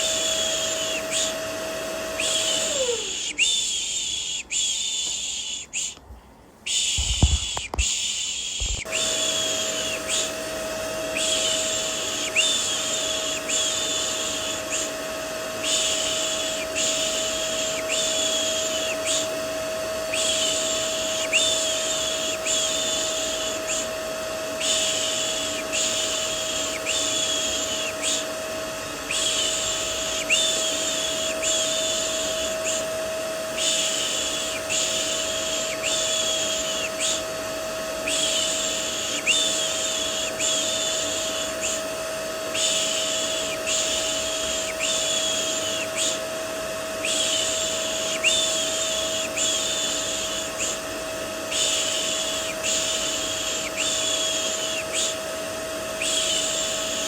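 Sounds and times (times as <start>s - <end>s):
vacuum cleaner motor humming: 0.0s - 5.9s, 6.7s - 57.0s.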